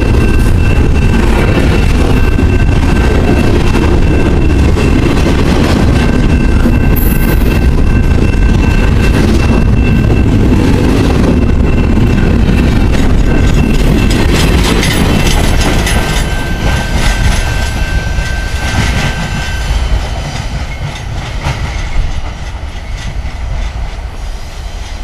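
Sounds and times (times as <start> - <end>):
wheels clacking over rail joints: 0.0 - 24.1
train rumble: 0.0 - 25.0.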